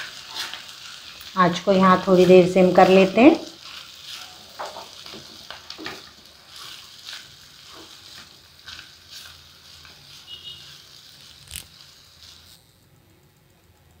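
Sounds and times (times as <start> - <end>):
spatula scraping a pan: 0.0 - 12.6
light sizzle: 0.0 - 14.0.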